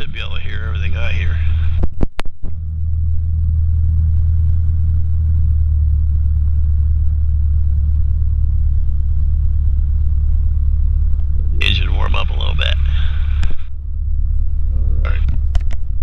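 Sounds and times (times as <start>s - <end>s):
airplane engine idling: 0.0s - 16.0s.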